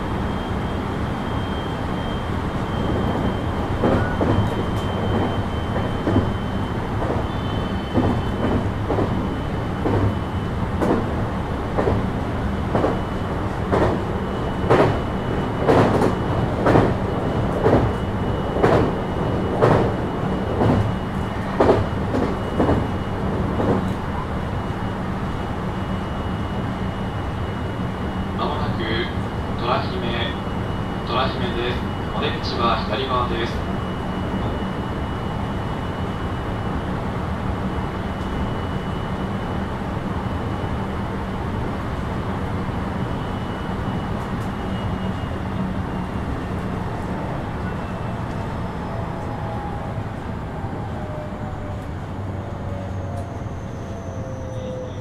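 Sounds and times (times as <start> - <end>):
train hum with high tone: 0.0 - 55.0.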